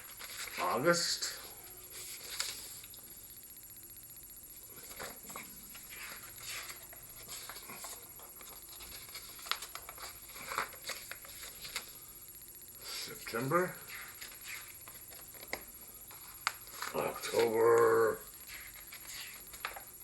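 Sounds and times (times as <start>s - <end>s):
calendar pages rustling: 0.0s - 3.1s, 4.7s - 12.2s, 12.9s - 20.0s.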